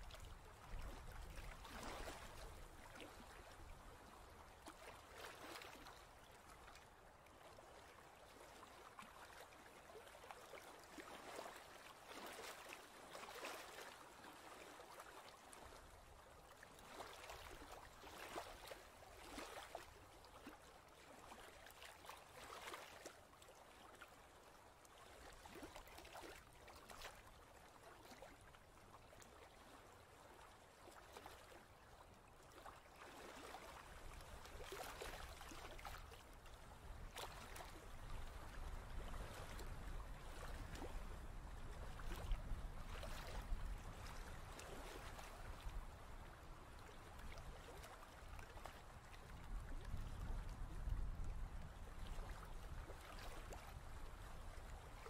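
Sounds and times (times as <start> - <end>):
faint ocean waves: 0.0 - 51.4.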